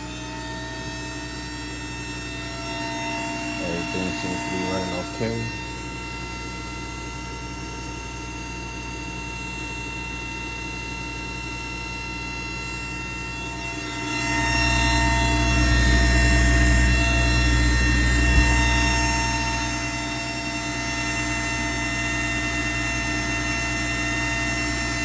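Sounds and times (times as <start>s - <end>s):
mechanical whine of machine: 0.0s - 25.0s.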